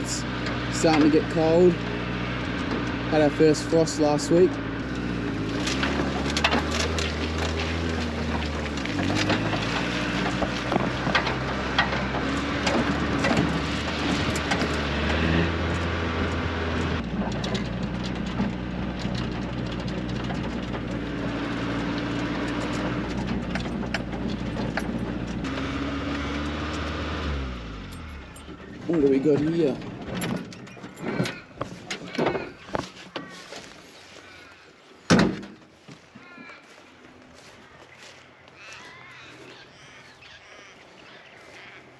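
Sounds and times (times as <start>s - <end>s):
vehicle body rattling: 0.0s - 33.8s, 35.0s - 35.8s
vehicle engine running: 0.0s - 34.6s, 35.7s - 41.9s.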